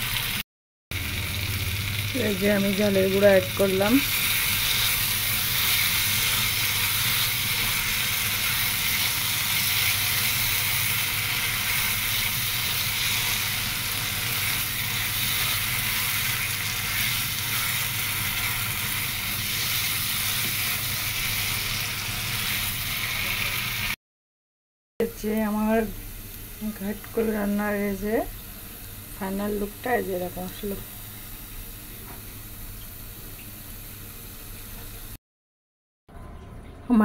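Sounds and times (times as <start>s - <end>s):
masala sizzling in hot oil: 0.0s - 24.0s, 25.0s - 35.2s.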